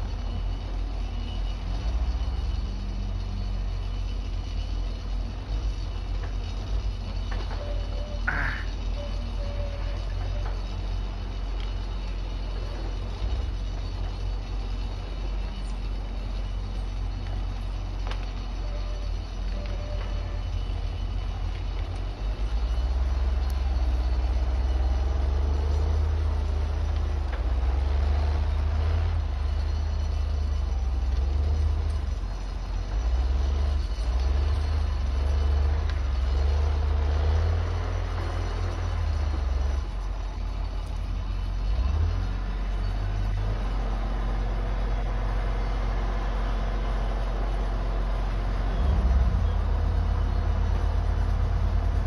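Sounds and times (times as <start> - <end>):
heavy machine engine rumbling: 0.0 - 52.0.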